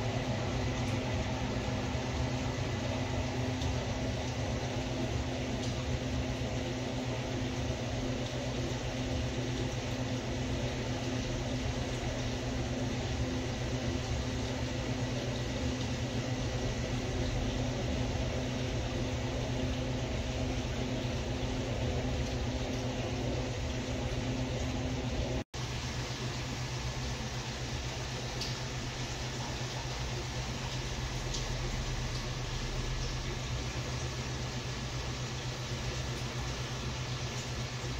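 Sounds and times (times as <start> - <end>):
aquarium pumps humming: 0.0 - 37.9.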